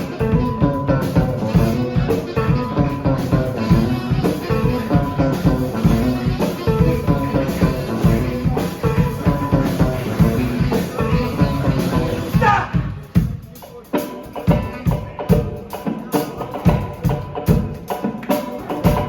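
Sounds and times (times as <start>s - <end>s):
electric guitar: 0.0s - 19.0s
rock drum beat: 0.0s - 19.0s.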